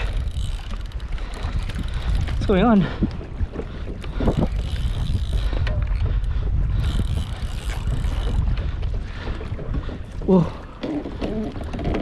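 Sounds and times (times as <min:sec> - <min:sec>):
wind and water hiss: 0:00.0 - 0:12.0
wind buffeting microphone: 0:00.0 - 0:12.0.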